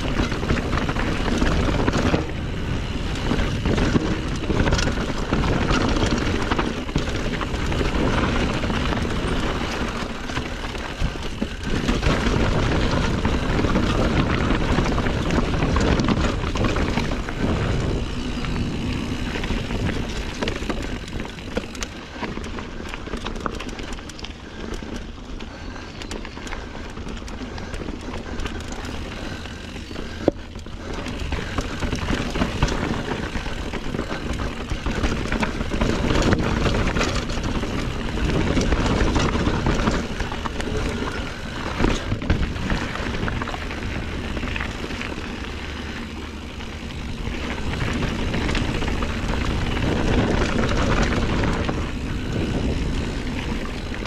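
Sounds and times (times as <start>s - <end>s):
bike rattling over rough ground: 0.0s - 54.0s.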